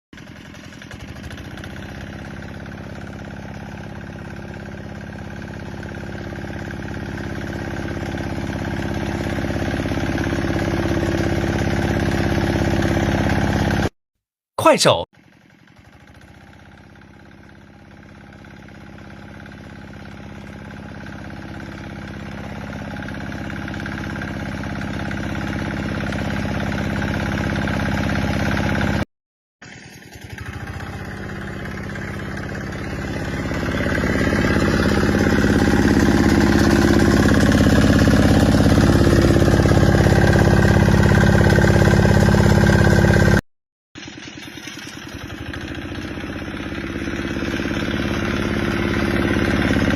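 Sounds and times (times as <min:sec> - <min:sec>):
tractor diesel engine running: 0:00.2 - 0:13.9, 0:14.6 - 0:29.0, 0:29.6 - 0:43.4, 0:44.0 - 0:49.9.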